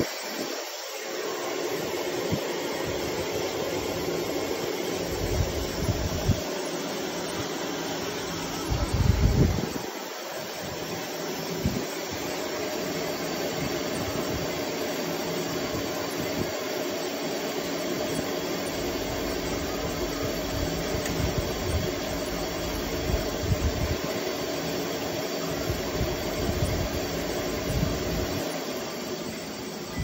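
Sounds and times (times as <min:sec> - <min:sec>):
humidifier motor hum: 0:00.0 - 0:30.0.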